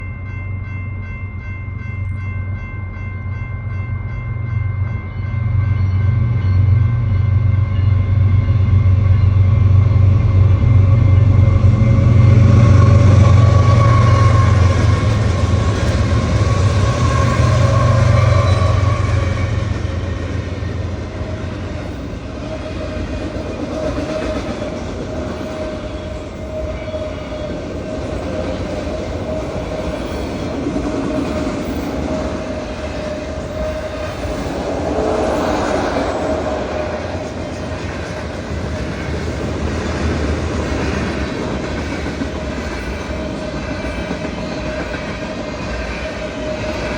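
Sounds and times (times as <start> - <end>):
railcar wheels rolling: 0.0 - 46.9.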